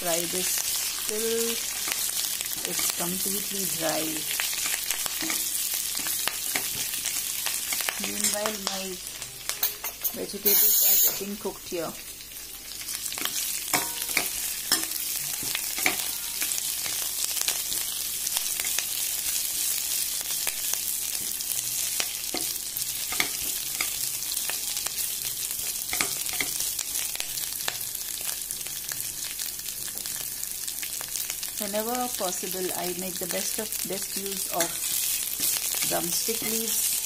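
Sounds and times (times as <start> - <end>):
leaves sizzling in hot oil: 0.0 - 37.0.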